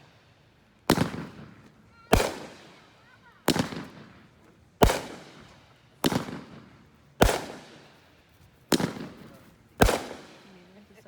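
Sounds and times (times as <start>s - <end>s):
fireworks bangs: 0.9s - 11.0s.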